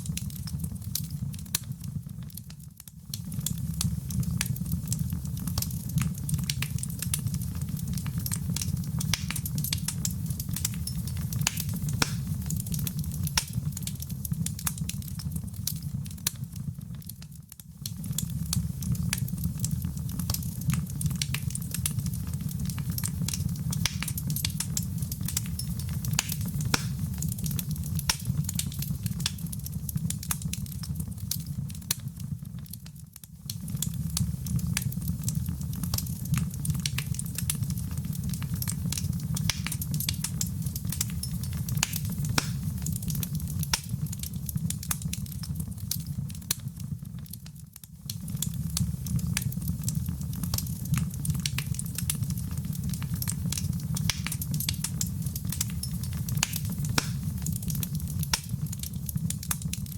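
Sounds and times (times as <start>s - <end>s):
low roar of flames: 0.0s - 59.9s
wood fire crackling and popping: 0.0s - 59.9s.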